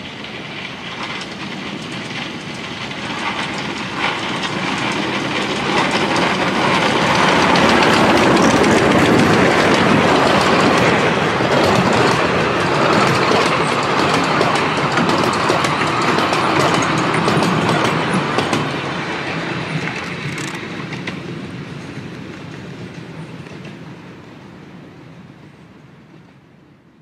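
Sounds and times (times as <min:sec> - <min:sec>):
train wheels clicking over rail joints: 0:00.0 - 0:23.9.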